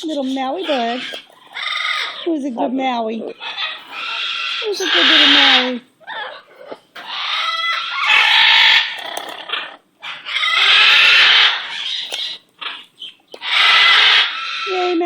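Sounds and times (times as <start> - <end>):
pet bird harsh calls: 0.0 - 2.7, 3.3 - 15.0.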